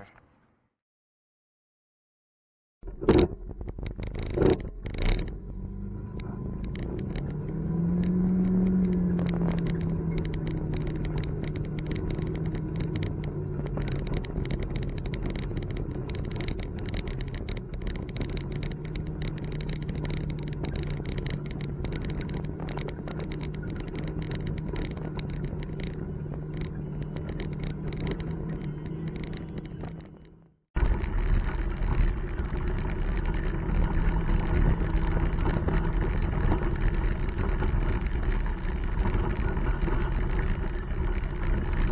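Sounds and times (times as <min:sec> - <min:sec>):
utility vehicle engine running: 0:02.8 - 0:41.9
short clicks and rattles: 0:06.2 - 0:41.9.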